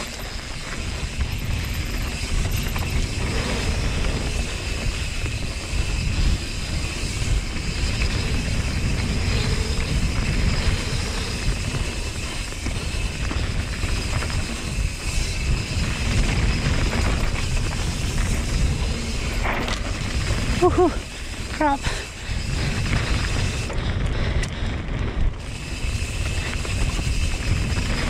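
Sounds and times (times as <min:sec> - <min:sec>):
bike chain and frame rattling: 0:00.0 - 0:28.0
tyres on loose dirt: 0:00.0 - 0:28.0
wind buffeting microphone: 0:00.0 - 0:28.0.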